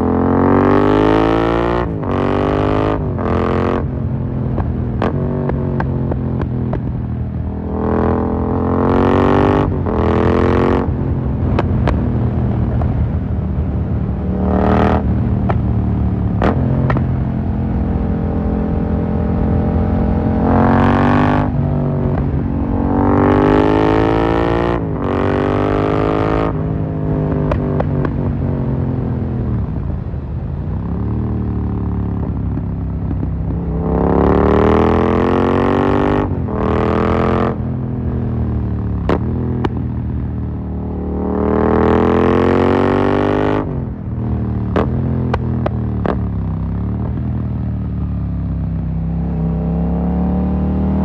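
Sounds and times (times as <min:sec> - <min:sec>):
motorcycle engine accelerating hard: 0:00.0 - 0:51.0.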